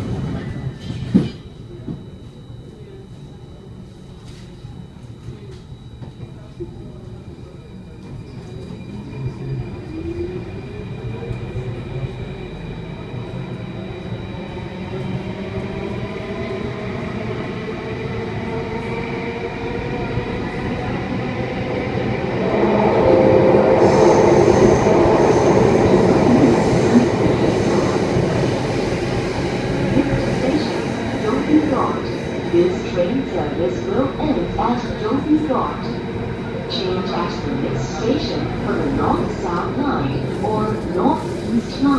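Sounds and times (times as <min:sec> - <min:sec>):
train wheels on track: 0:00.0 - 0:02.4, 0:05.2 - 0:41.9.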